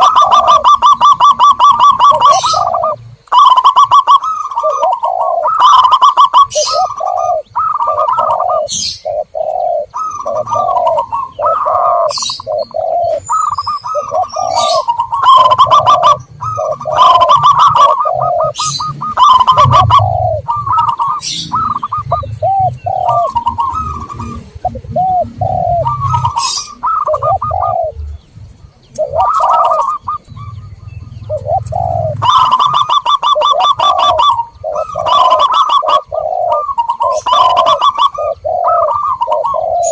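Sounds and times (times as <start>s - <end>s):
birds chirping: 0.0s - 39.9s
doves cooing: 0.0s - 39.9s.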